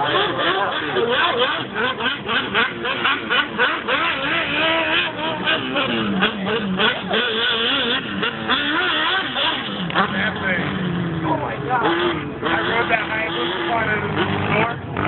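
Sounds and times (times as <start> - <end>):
off-road vehicle engines revving: 0.0 - 15.0.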